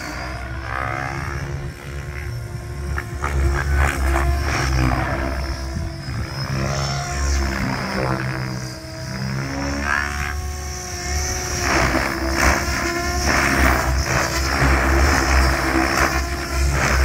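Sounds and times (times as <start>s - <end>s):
model helicopter rotor whine: 0.0s - 17.0s
pulsing rotor blade chop: 0.0s - 17.0s.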